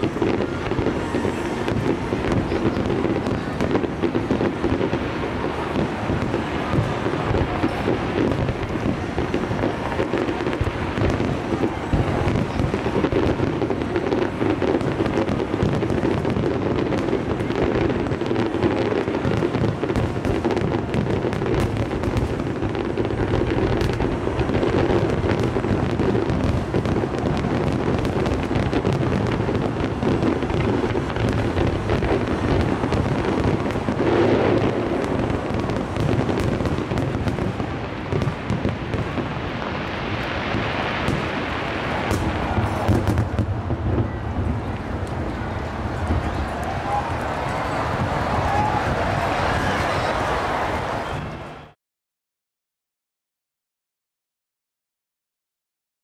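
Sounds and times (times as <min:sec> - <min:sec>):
fireworks bursting: 0:00.0 - 0:51.8
fireworks crackling: 0:00.0 - 0:51.8.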